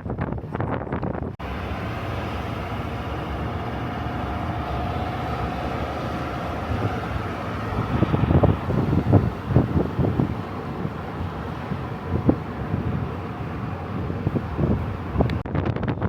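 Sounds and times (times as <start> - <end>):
moving vehicle noise: 0.0 - 15.8
wind buffeting microphone: 0.0 - 16.0
faint drone: 1.4 - 15.3.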